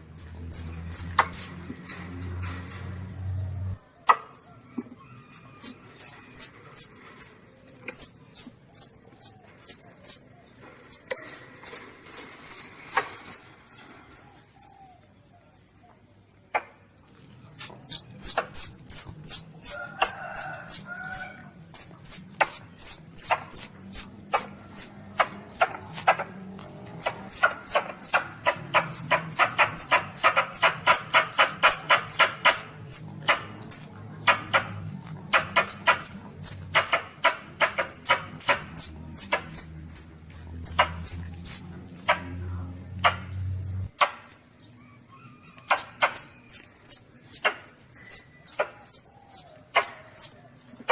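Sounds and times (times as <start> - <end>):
baby civet squeaking: 0.1 - 1.6, 5.1 - 14.3, 17.6 - 42.2, 45.1 - 50.9.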